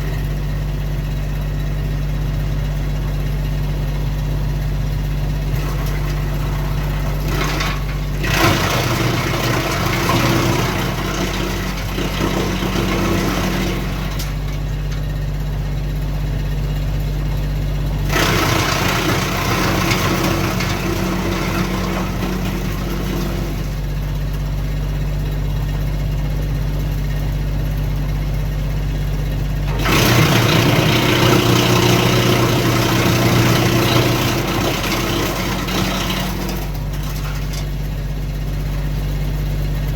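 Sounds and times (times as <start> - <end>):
tractor diesel engine running: 0.0 - 39.9
wood chipper grinding branches: 0.0 - 39.9.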